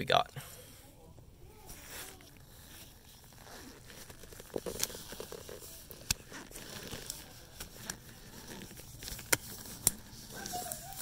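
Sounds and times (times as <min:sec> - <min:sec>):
faint rustling handling noise: 0:00.4 - 0:11.0.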